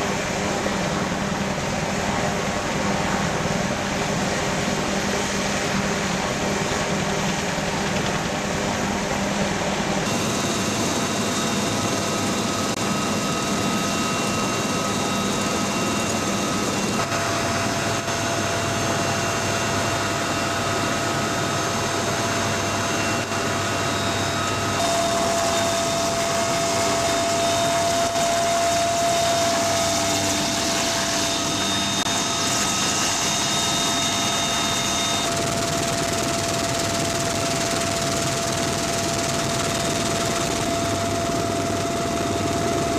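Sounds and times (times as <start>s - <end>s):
helicopter engines and rotor: 0.0s - 42.9s.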